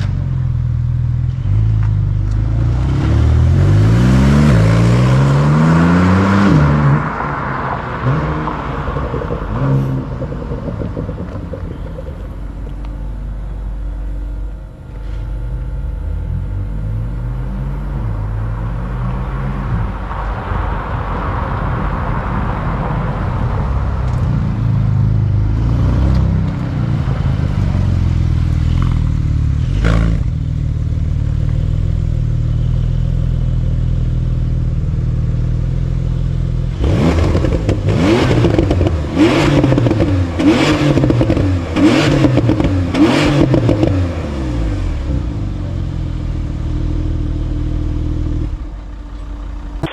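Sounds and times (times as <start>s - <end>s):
exhaust crack: 0.0s - 17.2s, 17.8s - 49.9s
sports car engine revving: 0.0s - 20.1s, 23.3s - 48.9s.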